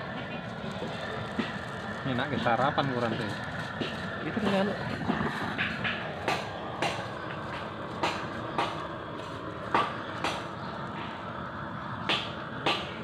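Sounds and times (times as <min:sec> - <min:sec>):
blowtorch roaring: 0:00.0 - 0:13.0.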